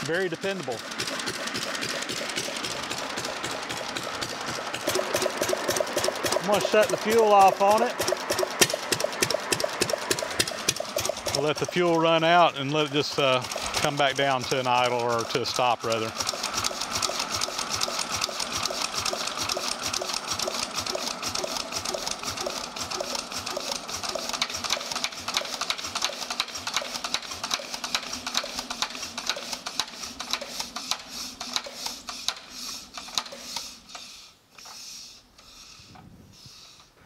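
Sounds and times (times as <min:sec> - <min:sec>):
engine clattering to a stop: 0:00.0 - 0:34.1.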